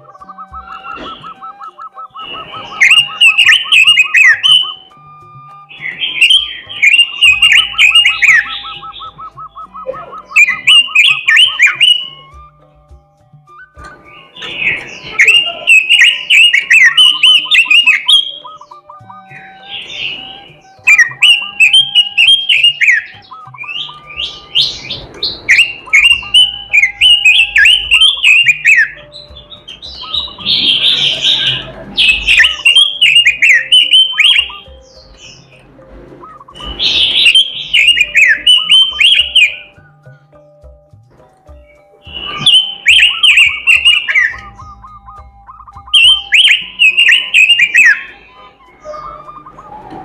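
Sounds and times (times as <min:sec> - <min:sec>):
bird warbling song: 0:00.0 - 0:40.7, 0:41.4 - 0:50.0.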